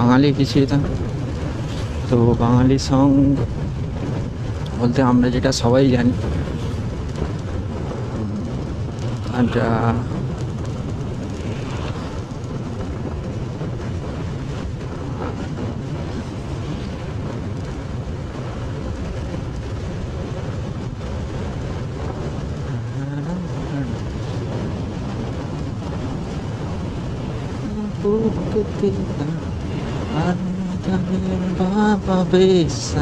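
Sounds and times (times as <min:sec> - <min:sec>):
motorcycle engine and road noise: 0:00.0 - 0:32.9.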